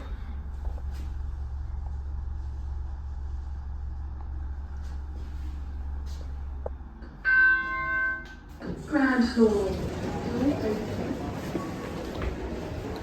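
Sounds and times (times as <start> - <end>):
lift humming: 0.0 - 13.0.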